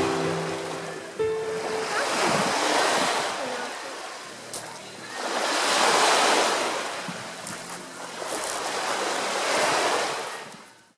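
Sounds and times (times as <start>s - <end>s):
sea waves washing in: 0.0s - 10.6s.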